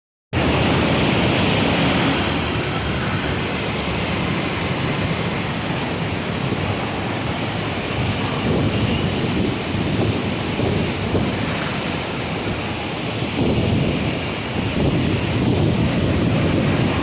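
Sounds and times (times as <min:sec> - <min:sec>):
river water rushing: 0:00.4 - 0:17.0.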